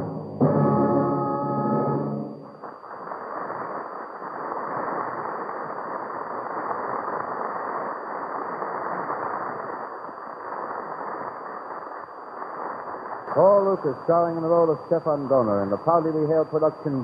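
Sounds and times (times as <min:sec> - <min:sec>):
muffled rushing noise: 0:00.0 - 0:17.0.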